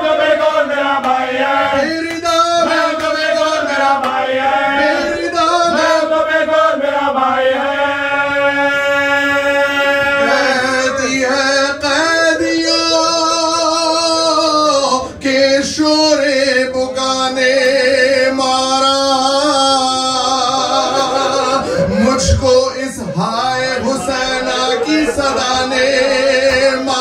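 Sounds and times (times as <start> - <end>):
man singing a lament: 0.0 - 27.0.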